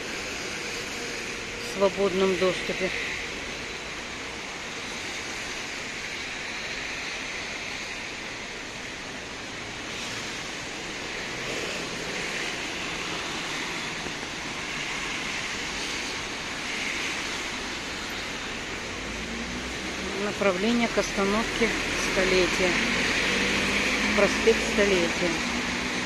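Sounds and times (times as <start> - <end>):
rain on wet street: 0.0 - 26.0.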